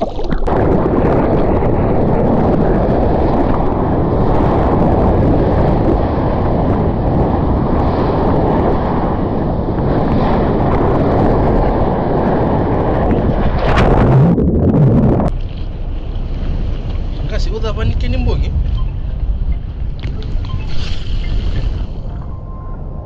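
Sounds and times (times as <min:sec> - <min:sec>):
water noise: 0:00.0 - 0:23.0
wind buffeting microphone: 0:00.0 - 0:23.0.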